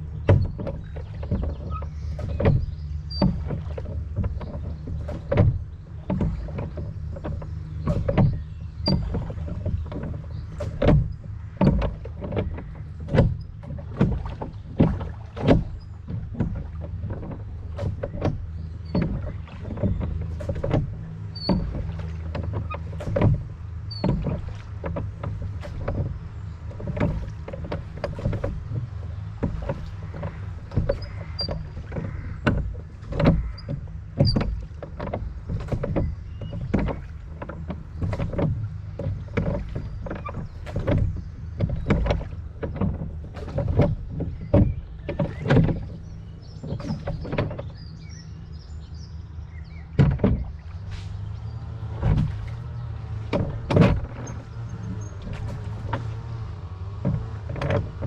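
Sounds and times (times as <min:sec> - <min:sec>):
oars splashing and knocking: 0:00.0 - 0:58.0.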